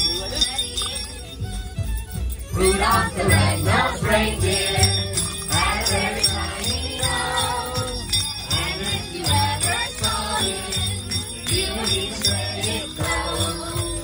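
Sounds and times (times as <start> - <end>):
sleigh bells jingling: 0.0 - 14.0.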